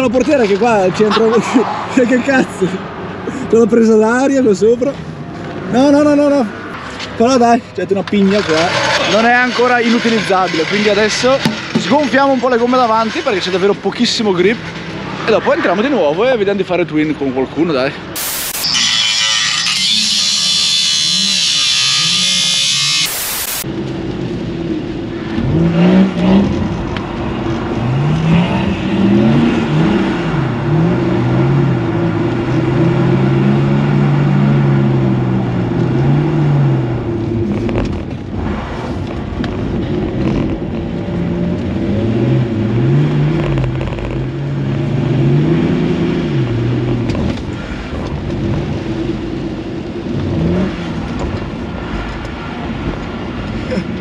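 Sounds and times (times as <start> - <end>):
car engine revving: 8.0 - 16.5, 18.1 - 53.4.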